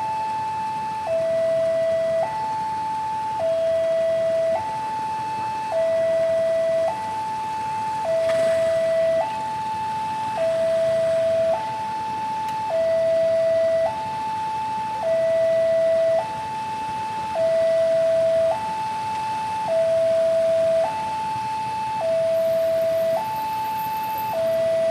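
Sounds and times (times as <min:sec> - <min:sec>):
level crossing two-tone alarm: 0:00.0 - 0:24.9.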